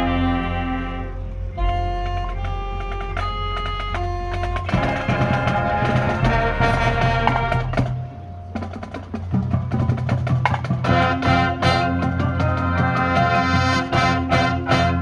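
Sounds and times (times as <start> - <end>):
drum-line percussion: 0.0 - 15.0
marching band playing: 0.0 - 15.0.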